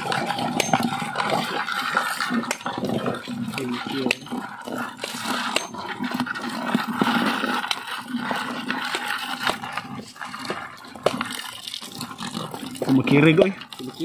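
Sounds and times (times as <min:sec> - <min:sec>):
water pouring into bucket: 0:00.0 - 0:14.0.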